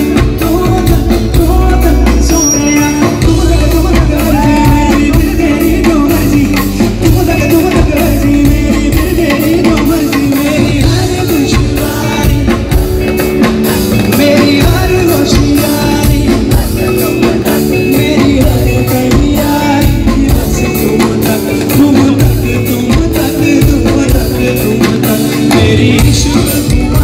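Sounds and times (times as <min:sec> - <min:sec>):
band playing: 0:00.0 - 0:27.0
man singing into microphone: 0:00.0 - 0:27.0.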